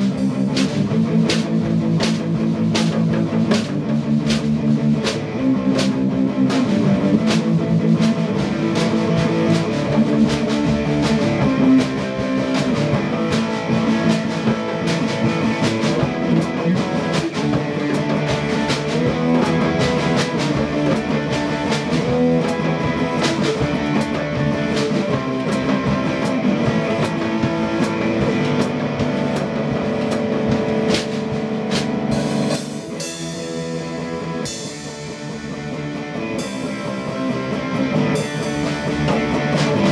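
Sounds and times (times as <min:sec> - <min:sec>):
drum kit with cymbal hits: 0:00.0 - 0:39.9
electric guitar: 0:00.0 - 0:39.9.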